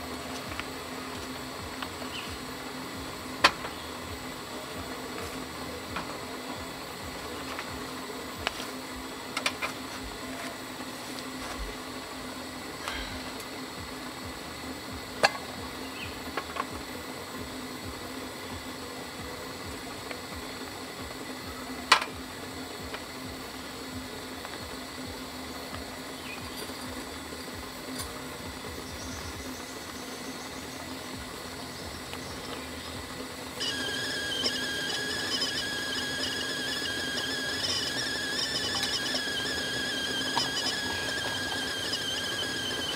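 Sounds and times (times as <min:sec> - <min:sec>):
kettle whistling: 0:00.0 - 0:42.9.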